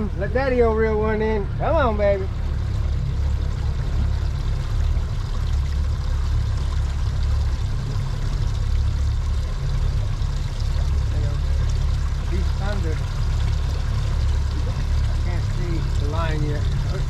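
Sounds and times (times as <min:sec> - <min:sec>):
water washing against hull: 0:00.0 - 0:17.0.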